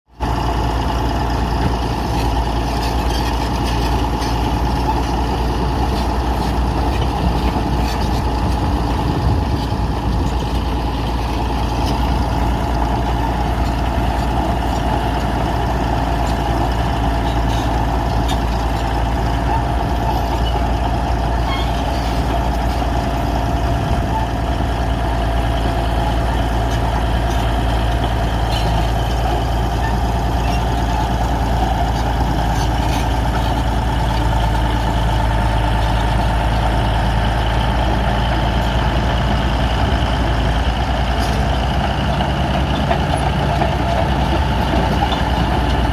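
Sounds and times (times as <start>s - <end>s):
bulldozer diesel engine rumbling: 0.1s - 45.9s.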